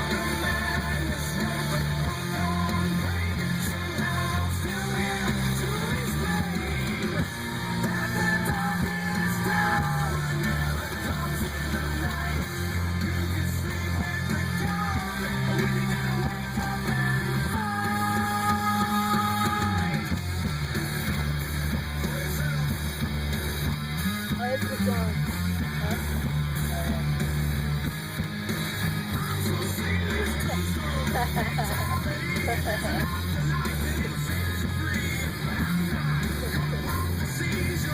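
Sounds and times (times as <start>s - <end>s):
deep bass notes: 0.0s - 37.9s
rock song with guitar and singing: 0.0s - 37.9s.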